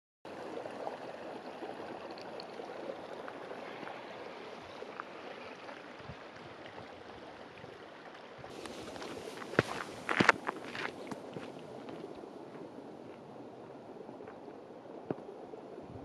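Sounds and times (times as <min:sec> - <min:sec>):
running water: 0:00.3 - 0:16.0.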